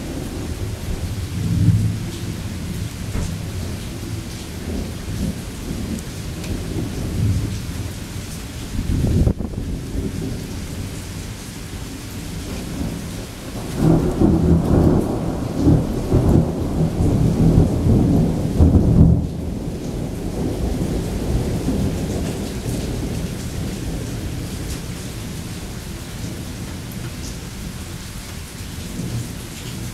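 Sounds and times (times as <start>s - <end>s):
thunder rumbling: 0.0s - 27.5s
heavy rain falling: 0.0s - 29.9s.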